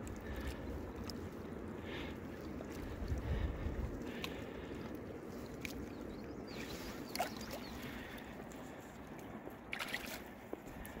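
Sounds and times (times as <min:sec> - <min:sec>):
river water flowing and lapping: 0:00.0 - 0:11.0
small water splashes: 0:00.0 - 0:11.0.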